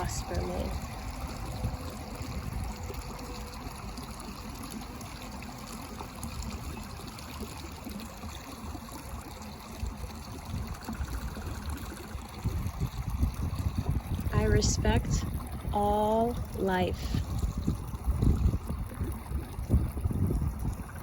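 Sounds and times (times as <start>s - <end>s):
low uneven rumble: 0.0s - 21.0s
trickling running water: 0.0s - 21.0s.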